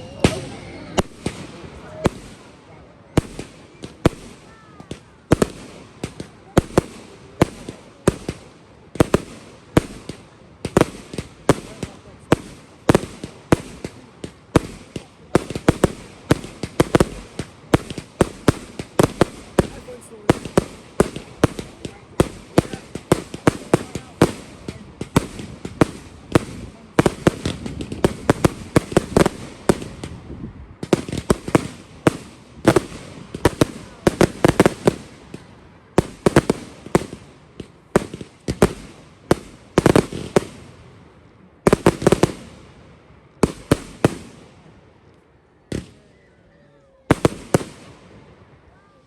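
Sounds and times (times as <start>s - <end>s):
fireworks bangs and crackles: 0.0s - 46.3s, 46.9s - 49.0s.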